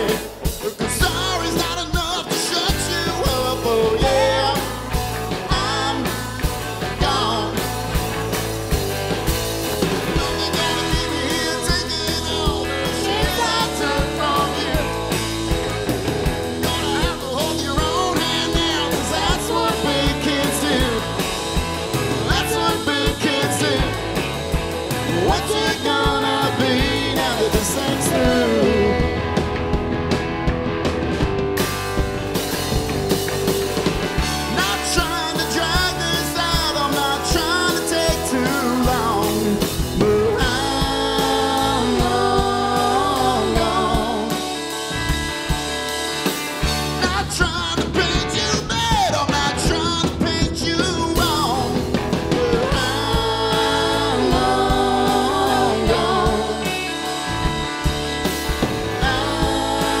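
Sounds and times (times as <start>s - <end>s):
electric guitar lead lines: 0.0s - 60.0s
live rock band playing: 0.0s - 60.0s.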